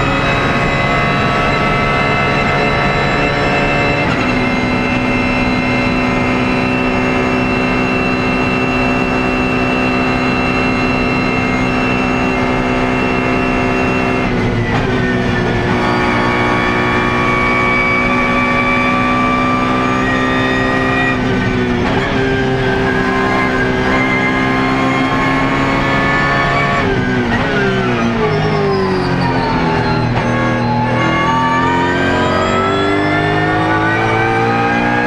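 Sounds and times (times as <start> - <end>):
racing engine droning: 0.0 - 35.0.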